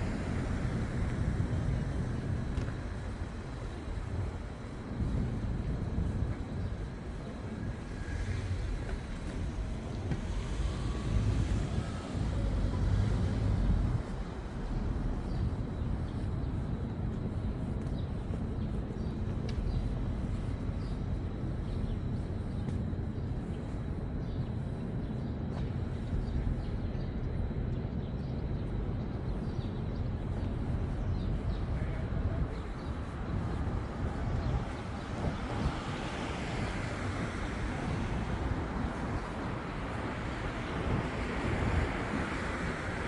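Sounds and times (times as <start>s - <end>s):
traffic rumble: 0.0s - 43.0s.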